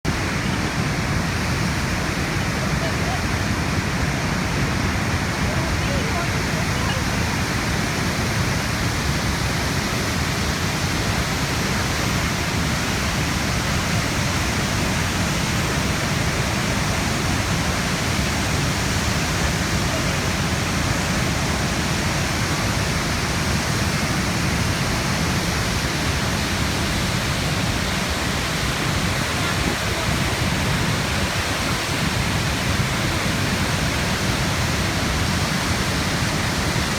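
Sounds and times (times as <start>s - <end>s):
waterfall crashing: 0.1s - 36.9s.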